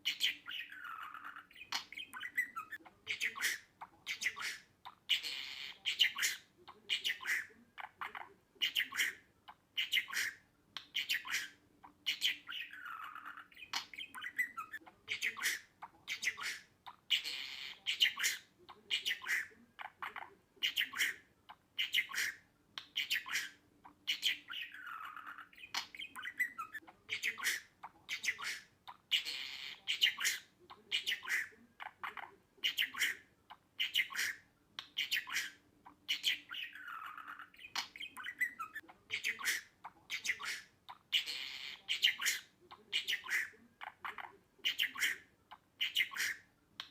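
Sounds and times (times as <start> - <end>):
budgerigar chirping and warbling: 0.0 - 46.9.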